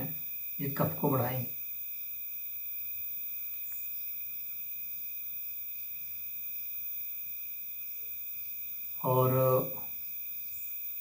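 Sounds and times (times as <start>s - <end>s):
high-pitched insect trilling: 0.0s - 11.0s.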